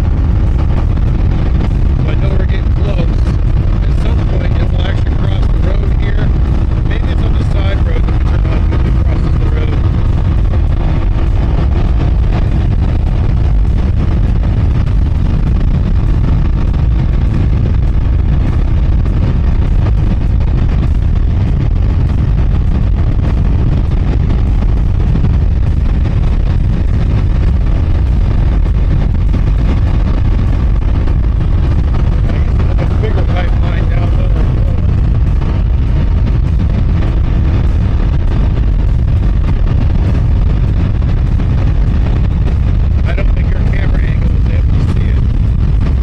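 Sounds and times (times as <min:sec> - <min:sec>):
motorcycle engine running: 0:00.0 - 0:46.0
wind rush on microphone: 0:00.0 - 0:46.0.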